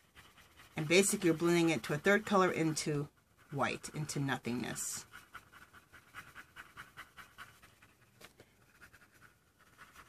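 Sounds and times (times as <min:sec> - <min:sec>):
colored pencil scratching on paper: 0:00.0 - 0:10.0.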